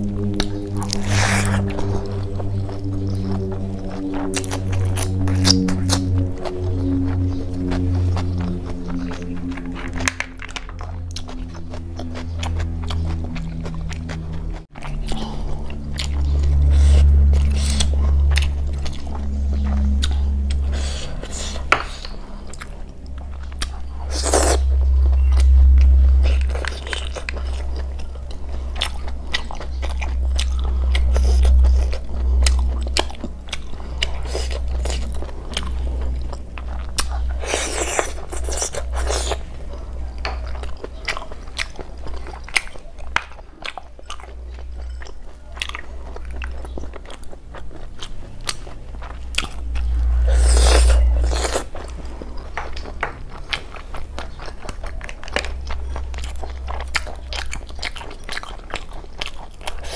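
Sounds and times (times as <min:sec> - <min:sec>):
chewing and wet mouth sounds: 0:00.0 - 0:59.9.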